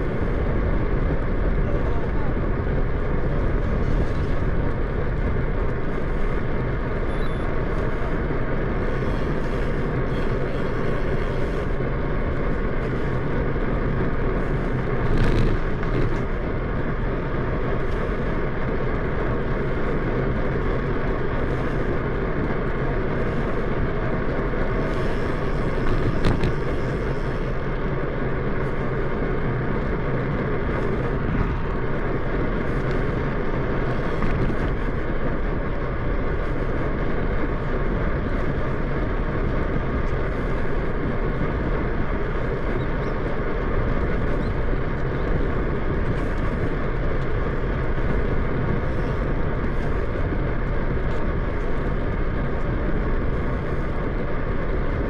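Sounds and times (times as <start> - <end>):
bicycle road noise: 0.0 - 55.0
wind rush: 0.0 - 55.0.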